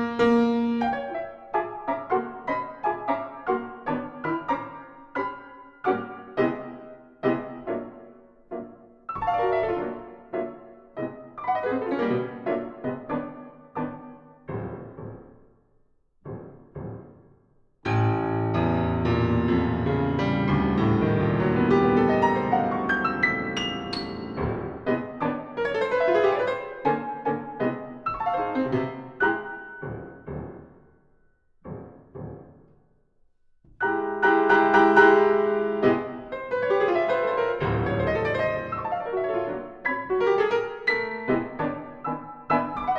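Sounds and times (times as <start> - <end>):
piano playing classical music: 0.0 - 15.5, 16.2 - 32.6, 33.6 - 42.9.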